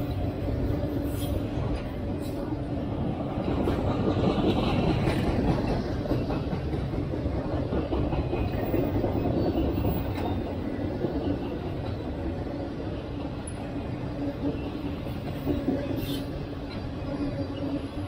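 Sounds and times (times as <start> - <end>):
steel wheels rumbling on track: 0.0 - 18.0.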